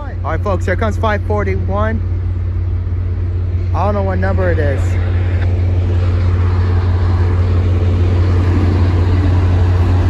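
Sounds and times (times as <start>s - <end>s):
locomotive diesel drone: 0.0s - 10.0s
train cars rolling on rails: 0.0s - 10.0s.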